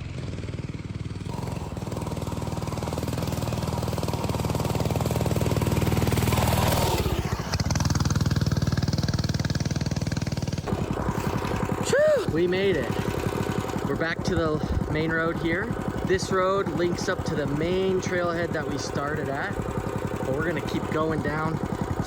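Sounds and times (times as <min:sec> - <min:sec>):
small motorbike engine running: 0:00.0 - 0:22.0.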